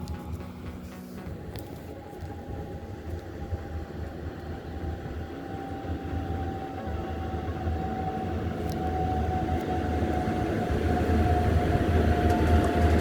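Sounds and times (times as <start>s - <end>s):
locomotive whine: 0.0s - 13.0s
train rumbling: 0.0s - 13.0s.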